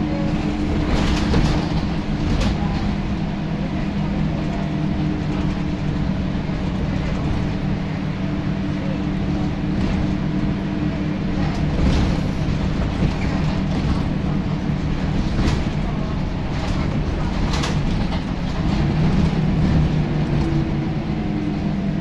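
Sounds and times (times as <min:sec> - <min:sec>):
bus body knocks and rattles: 0:00.0 - 0:22.0
bus diesel engine droning: 0:00.0 - 0:22.0.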